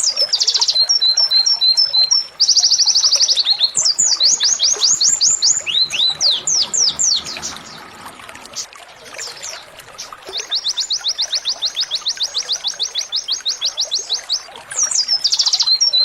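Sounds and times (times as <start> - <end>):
canary trilling: 0.0 - 16.0.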